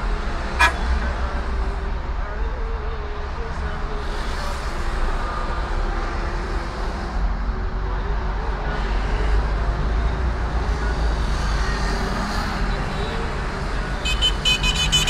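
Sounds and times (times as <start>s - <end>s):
car engine and tyres rumbling: 0.0s - 15.0s
surrounding traffic: 0.0s - 15.0s.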